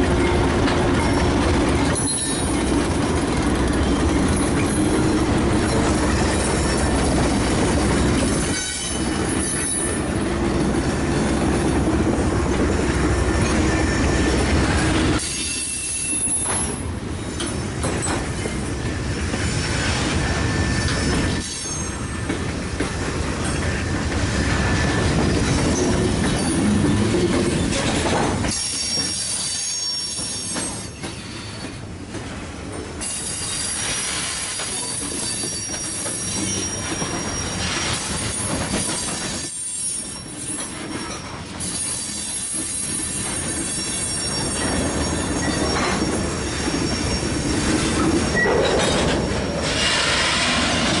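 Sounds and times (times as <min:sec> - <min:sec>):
freight train rolling past: 0:00.0 - 0:51.0
wheels squealing on rails: 0:00.0 - 0:51.0.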